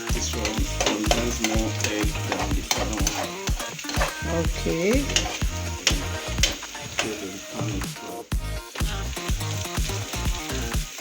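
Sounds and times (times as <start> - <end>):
background music with steady beat: 0.0 - 11.0
food sizzling in a frying pan: 0.0 - 11.0.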